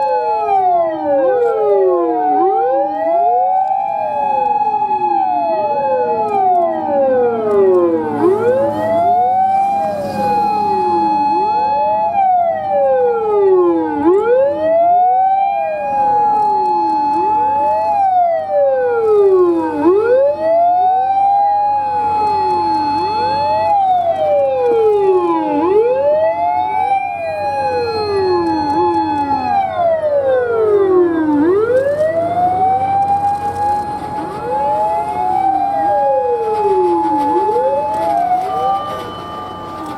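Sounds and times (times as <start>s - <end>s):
fire engine wail sirens: 0.0s - 39.9s
truck engines humming: 3.4s - 16.6s, 17.4s - 39.9s.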